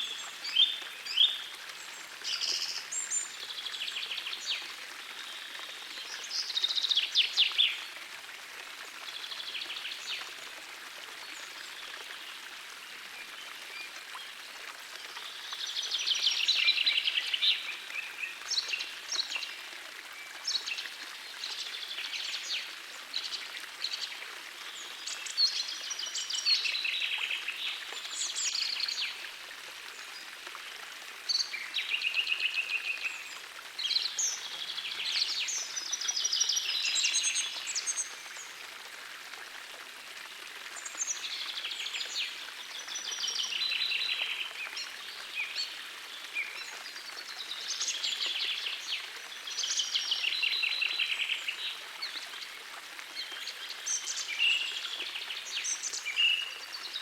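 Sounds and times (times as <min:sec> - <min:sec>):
gentle stream rushing: 0:00.0 - 0:57.0.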